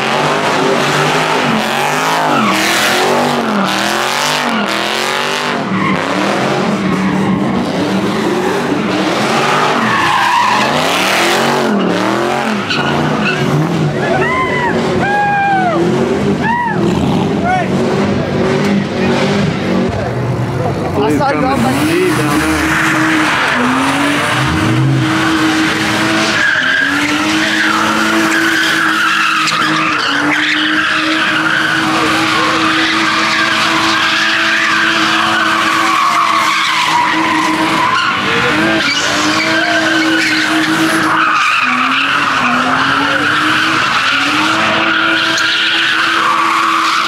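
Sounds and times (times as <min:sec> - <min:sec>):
car engine at high revs: 0:00.0 - 0:47.0
tyres screeching: 0:00.4 - 0:19.9, 0:21.0 - 0:47.0.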